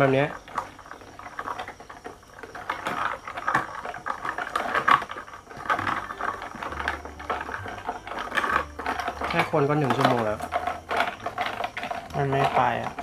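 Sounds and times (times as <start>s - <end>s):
ice cubes clinking in glasses: 0.0s - 13.0s.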